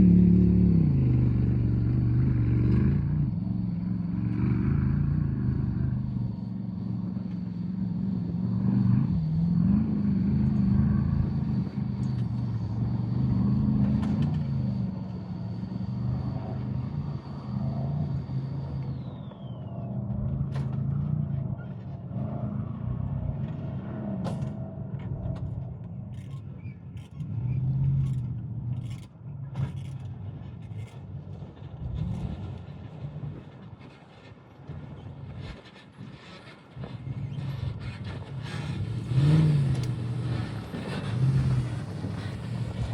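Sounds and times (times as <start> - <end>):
vehicle engine revving: 0.0 - 30.9, 36.4 - 42.9.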